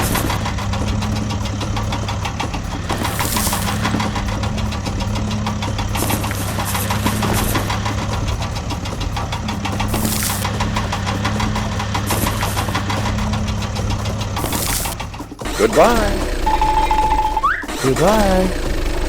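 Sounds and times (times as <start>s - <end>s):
hiss: 0.0s - 16.5s
diesel engine knocking: 0.0s - 19.0s.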